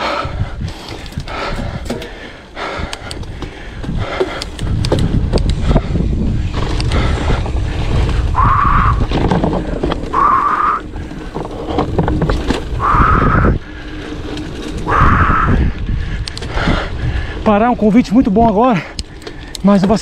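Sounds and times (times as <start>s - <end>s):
heavy hard breathing: 0.0s - 17.5s
low rumble of bike on trail: 0.0s - 20.0s.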